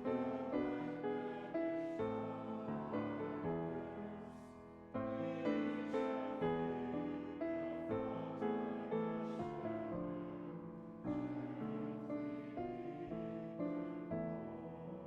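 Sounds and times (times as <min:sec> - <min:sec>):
slow piano hymn: 0:00.0 - 0:15.0.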